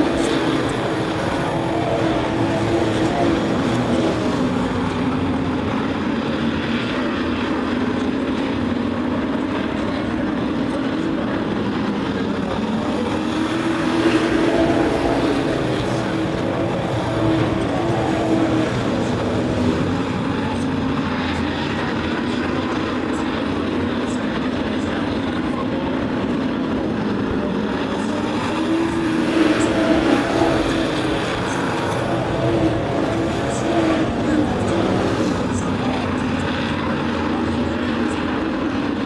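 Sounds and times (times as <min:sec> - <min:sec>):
racing truck engines droning: 0:00.0 - 0:39.0.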